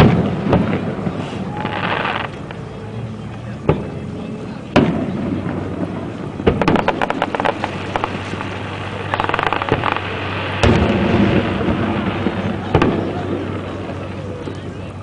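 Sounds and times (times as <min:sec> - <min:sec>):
fireworks booming: 0:00.0 - 0:14.9
fireworks crackling: 0:00.0 - 0:15.0.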